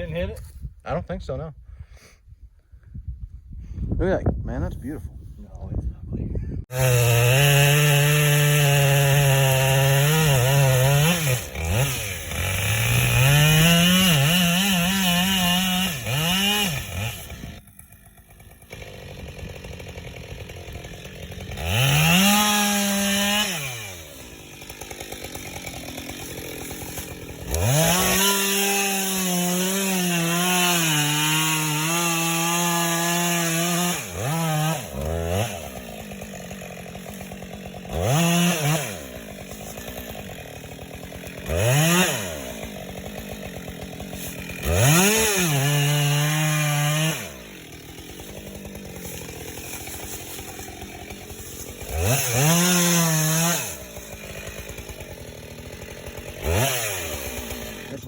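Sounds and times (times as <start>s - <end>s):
chainsaw at full throttle: 6.6s - 58.0s
chainsaw idling: 6.7s - 58.0s.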